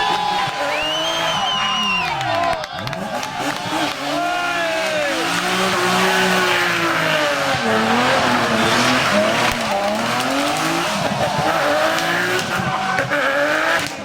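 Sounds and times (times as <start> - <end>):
car engine revving: 0.0 - 14.0
tyres squealing on asphalt: 0.0 - 14.0.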